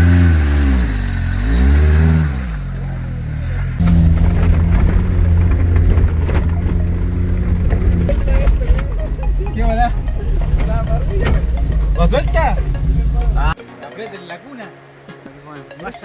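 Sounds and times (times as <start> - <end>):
engine revving: 0.0 - 13.6
low engine drone: 0.0 - 13.6.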